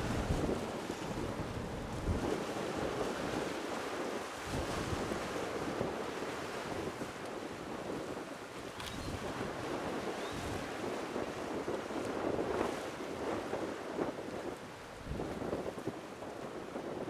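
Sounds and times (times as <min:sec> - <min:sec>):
sea noise: 0:00.0 - 0:17.0
wind on microphone: 0:00.0 - 0:17.0.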